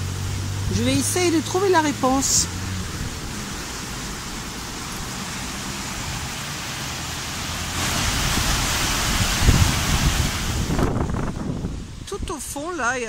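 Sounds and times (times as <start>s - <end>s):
wind rumble on microphone: 0.0s - 6.5s, 7.8s - 12.7s
river rushing over rapids: 0.0s - 12.0s.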